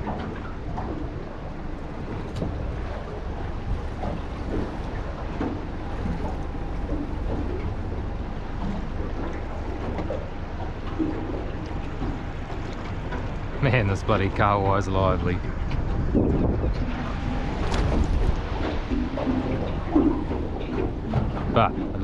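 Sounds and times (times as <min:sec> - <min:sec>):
faint splashes and knocks: 0:00.0 - 0:22.0
water lapping around boat: 0:00.0 - 0:22.0
wind buffeting microphone: 0:00.0 - 0:22.0.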